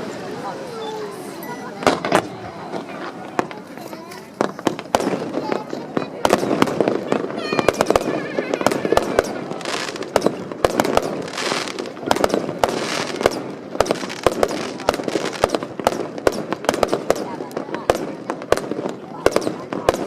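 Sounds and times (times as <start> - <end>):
fireworks crackling hiss: 0.0 - 20.0
fireworks bangs: 1.7 - 20.0.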